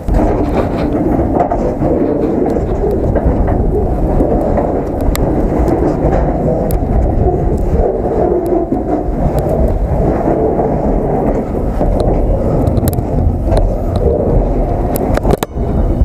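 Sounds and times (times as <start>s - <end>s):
freight train rumble: 0.0s - 16.0s.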